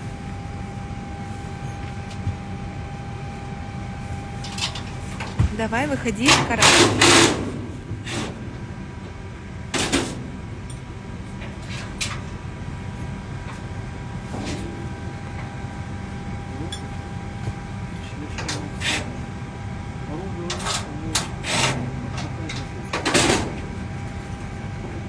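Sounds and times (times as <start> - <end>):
aircraft cabin low hum: 0.0 - 25.0.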